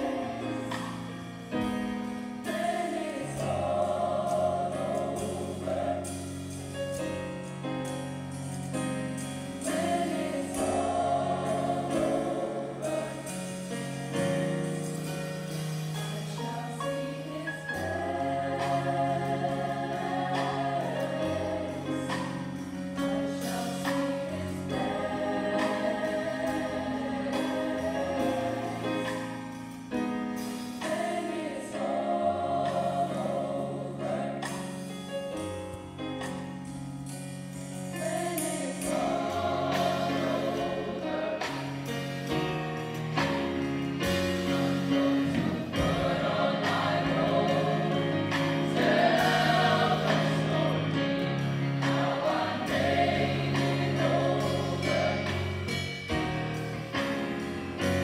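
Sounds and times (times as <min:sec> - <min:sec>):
choir singing in harmony: 0:00.0 - 0:58.0
drum kit with cymbal hits: 0:00.0 - 0:58.0
keyboard: 0:00.0 - 0:58.0.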